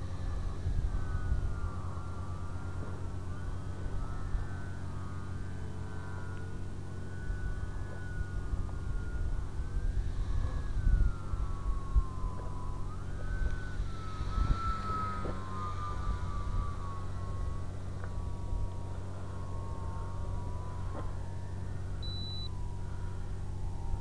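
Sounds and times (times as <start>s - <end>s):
wind buffeting microphone: 0.0s - 22.0s
model plane motor whine: 0.0s - 24.0s.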